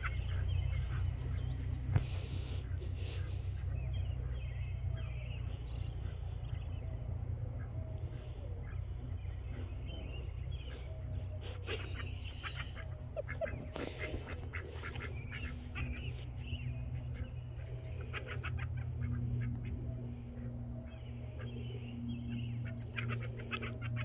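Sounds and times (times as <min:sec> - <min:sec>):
ducks quacking softly: 0:00.0 - 0:06.7, 0:07.6 - 0:24.0
steady low rumble: 0:00.0 - 0:24.0.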